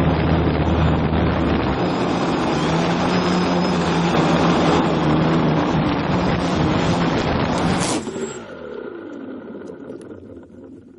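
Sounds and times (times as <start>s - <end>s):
drone motors and propellers: 0.0s - 10.9s.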